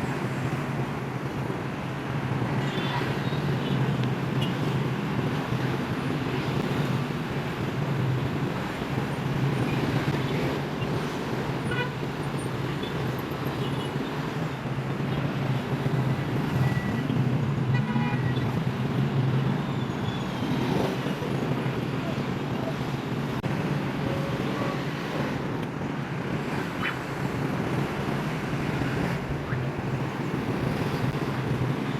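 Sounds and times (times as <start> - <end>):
city street traffic: 0.0 - 31.9.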